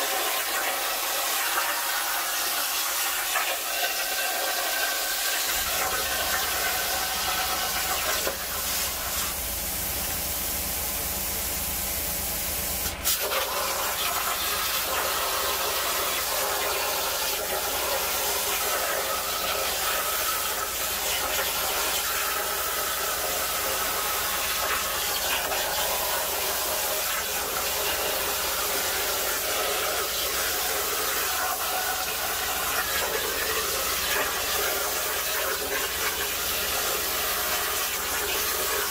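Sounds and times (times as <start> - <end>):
plasma cutter arc hissing: 0.0 - 38.9.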